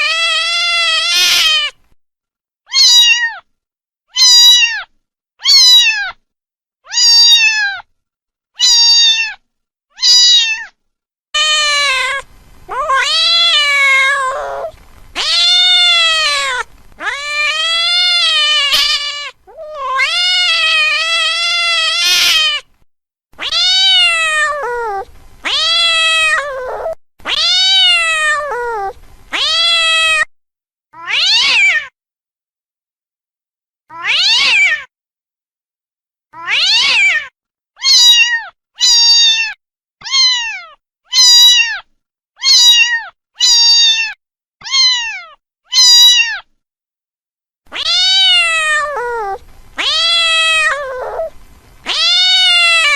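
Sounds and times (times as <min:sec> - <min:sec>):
cat meowing: 0:00.0 - 0:01.8, 0:02.7 - 0:03.4, 0:04.1 - 0:06.2, 0:06.9 - 0:07.9, 0:08.6 - 0:09.4, 0:10.0 - 0:10.8, 0:11.4 - 0:22.7, 0:23.4 - 0:30.3, 0:31.0 - 0:31.9, 0:33.9 - 0:34.9, 0:36.4 - 0:46.5, 0:47.7 - 0:52.9.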